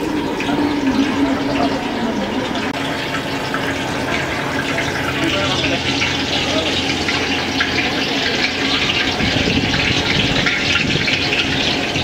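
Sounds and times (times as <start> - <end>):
chicken deep-frying in oil: 0.0 - 12.0
low wavering hum: 0.0 - 12.0.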